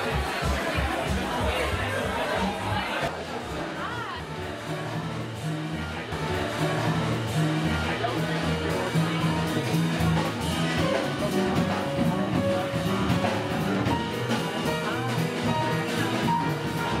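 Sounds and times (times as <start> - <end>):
bass line: 0.0 - 17.0
jazz band playing: 0.0 - 17.0.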